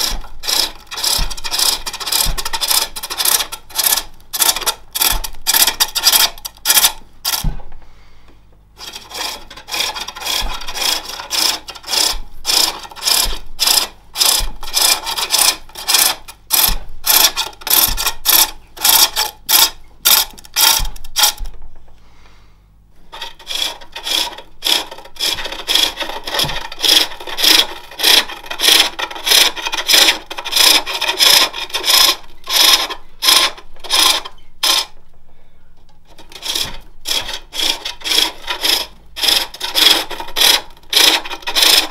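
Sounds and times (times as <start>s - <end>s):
lathe tool rasping wood: 0.0s - 7.0s, 8.8s - 19.3s, 23.2s - 34.9s, 36.2s - 41.9s.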